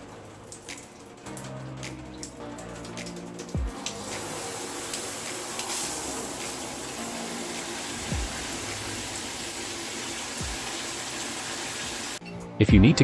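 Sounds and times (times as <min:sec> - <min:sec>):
shower head spraying water: 0:00.5 - 0:12.2.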